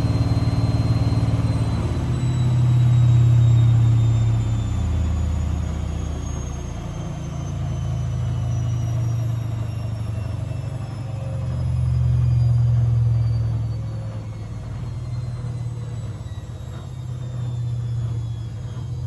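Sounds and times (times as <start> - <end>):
motor whine: 0.0 - 19.0.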